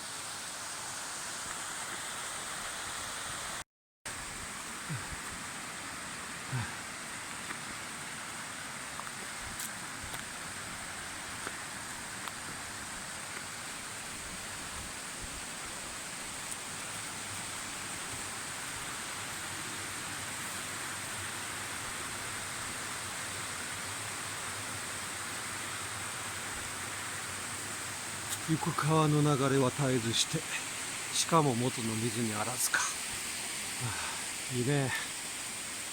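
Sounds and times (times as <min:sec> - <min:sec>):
flowing stream water: 0:00.0 - 0:35.9.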